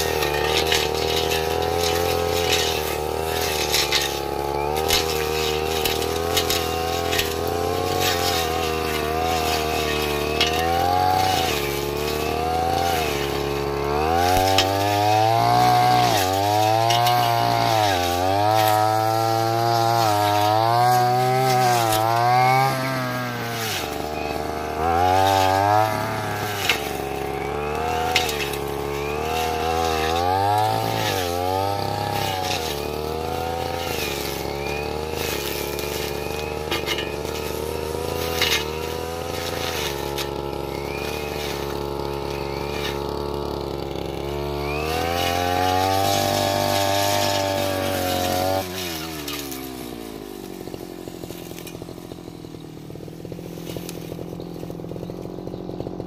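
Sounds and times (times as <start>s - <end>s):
brush cutter engine revving: 0.0s - 56.0s.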